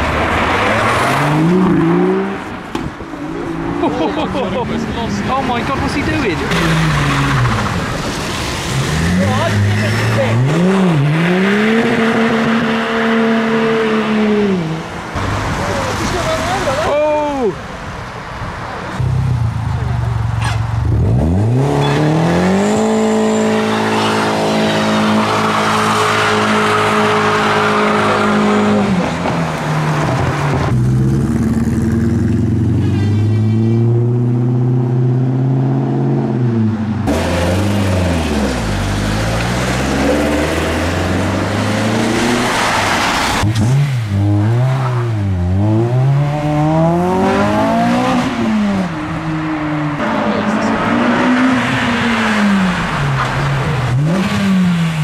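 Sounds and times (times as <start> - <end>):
car engines revving hard: 0.0 - 17.5, 18.4 - 55.0.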